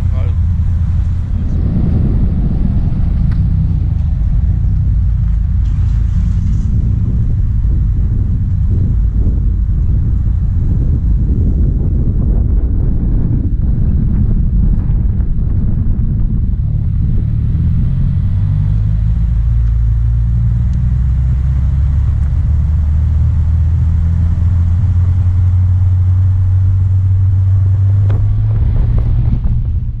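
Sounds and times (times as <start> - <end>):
car engine and exhaust: 0.0 - 30.0.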